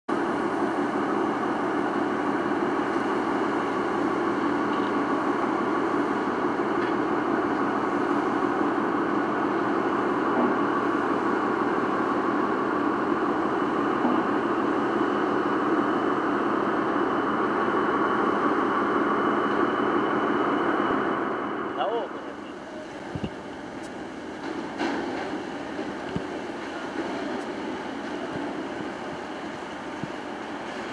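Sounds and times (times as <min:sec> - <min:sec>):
boat engine droning: 0:00.1 - 0:30.9.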